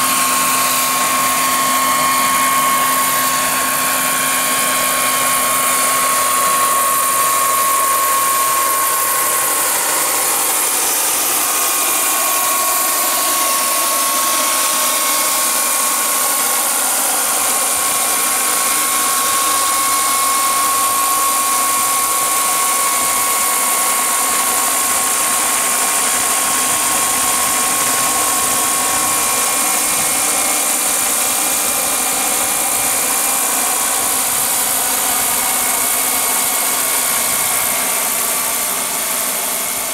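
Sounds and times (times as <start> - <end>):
model helicopter turbine whine: 0.0 - 39.9.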